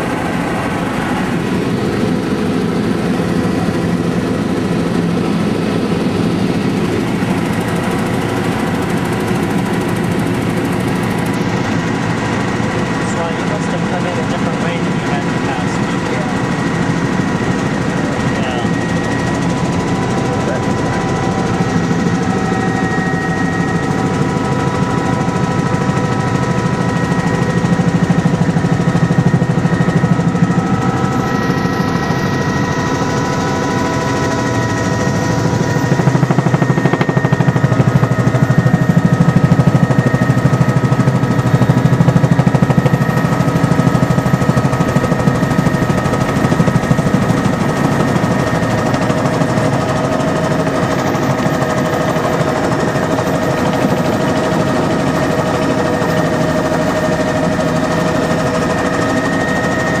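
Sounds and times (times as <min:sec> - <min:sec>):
helicopter engine whine: 0:00.0 - 1:00.0
helicopter rotor thumping: 0:00.0 - 1:00.0.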